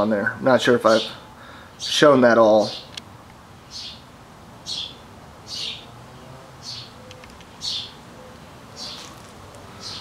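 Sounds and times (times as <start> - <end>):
bird chirping: 0.8 - 3.0, 3.6 - 10.0.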